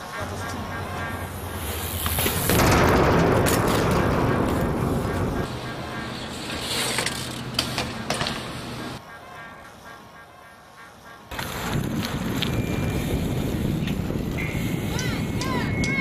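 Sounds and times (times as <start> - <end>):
bmx bike rolling: 0.0 - 16.0.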